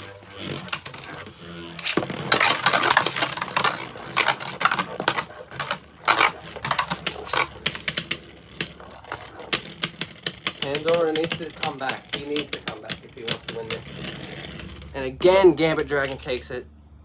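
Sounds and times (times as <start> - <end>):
spinning tops clashing: 0.0 - 16.6.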